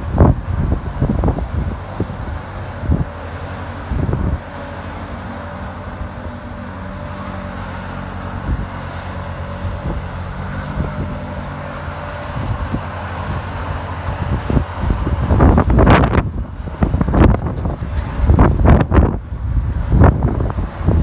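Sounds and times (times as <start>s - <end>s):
ice resurfacer engine humming: 0.0s - 21.0s.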